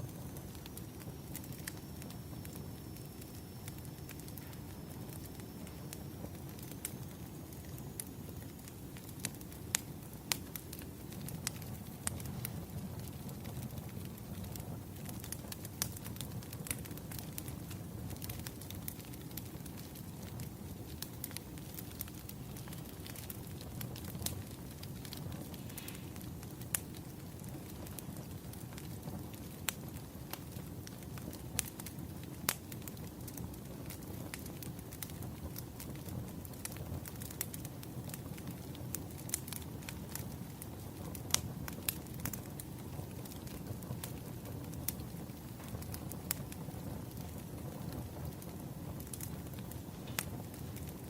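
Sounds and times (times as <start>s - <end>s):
fire rumbling: 0.0s - 51.0s
firewood crackling pops: 0.1s - 51.0s.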